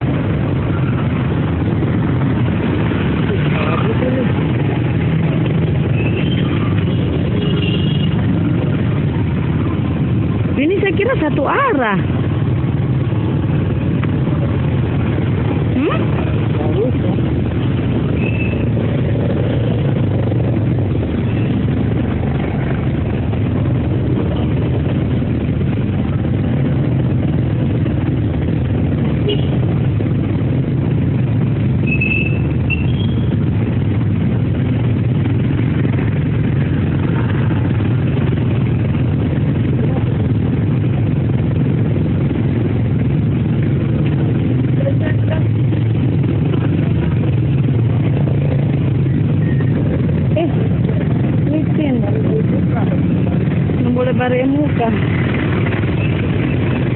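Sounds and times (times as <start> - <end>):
road noise: 0.0 - 56.9
vehicle engine drone: 0.0 - 56.9.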